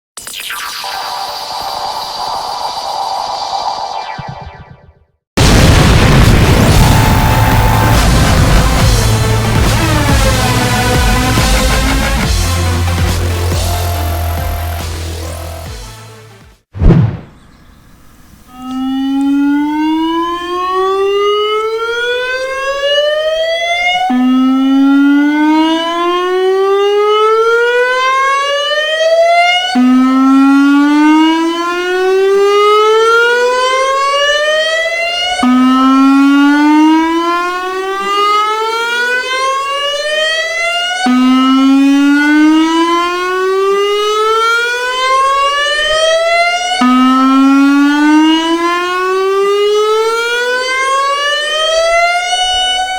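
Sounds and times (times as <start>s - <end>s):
warning siren wailing: 5.4s - 15.8s, 17.8s - 52.9s.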